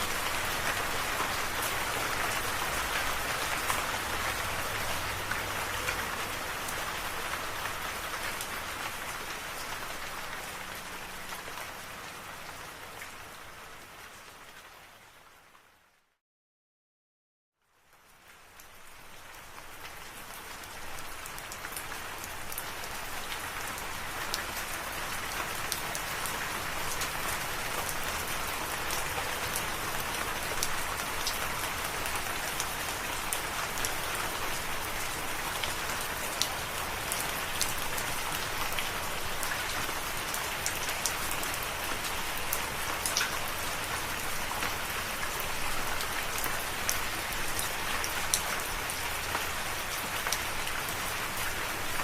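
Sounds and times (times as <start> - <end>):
steady rain falling: 0.0 - 16.2, 17.6 - 52.0.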